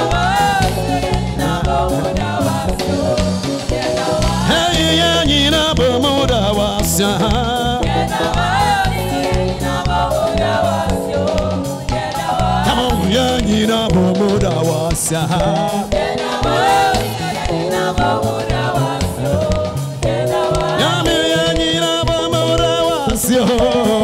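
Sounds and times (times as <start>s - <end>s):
gospel singing voices: 0.0s - 24.0s
instrumental backing with steady beat: 0.0s - 24.0s.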